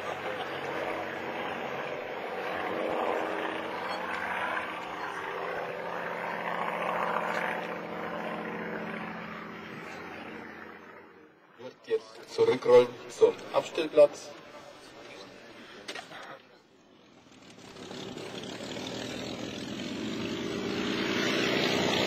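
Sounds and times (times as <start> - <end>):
propeller plane droning overhead: 0.0 - 15.9, 16.7 - 22.0.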